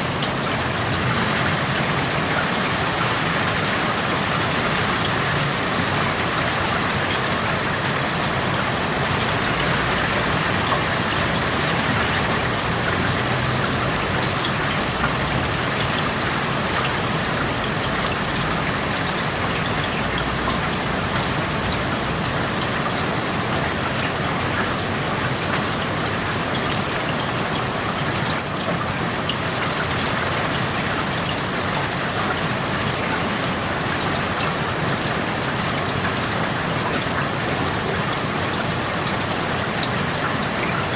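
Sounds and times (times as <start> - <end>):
raindrops pattering on surfaces: 0.0 - 40.9
steady rain falling: 0.0 - 40.9.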